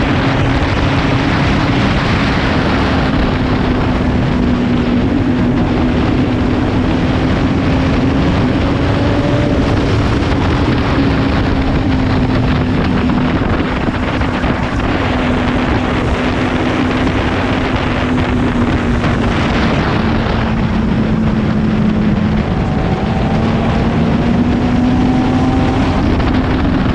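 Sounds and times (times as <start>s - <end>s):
motorcycle engine cruising: 0.0s - 26.9s
wind rushing over microphone: 0.0s - 26.9s.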